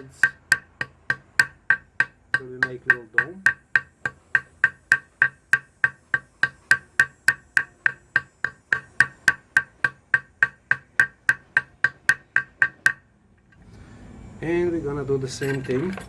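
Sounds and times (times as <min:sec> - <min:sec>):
hammer tapping metal rivet: 0:00.0 - 0:13.6.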